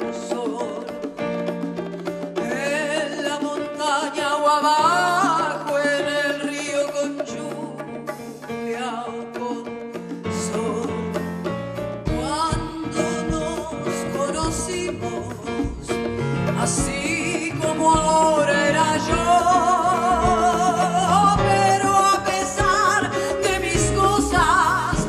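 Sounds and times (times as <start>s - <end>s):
woman singing with vibrato: 0.0s - 1.2s, 2.4s - 11.1s, 12.1s - 25.0s
instrumental accompaniment: 0.0s - 25.0s.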